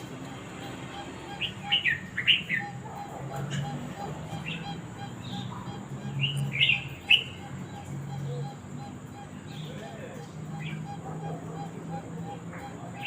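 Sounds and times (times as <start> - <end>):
animal chirps: 0.0 - 13.0.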